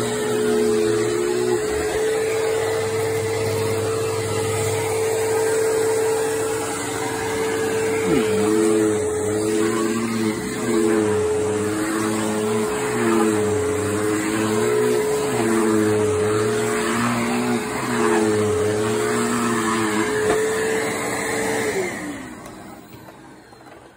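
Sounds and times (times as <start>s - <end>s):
upright vacuum cleaner running: 0.0s - 23.9s.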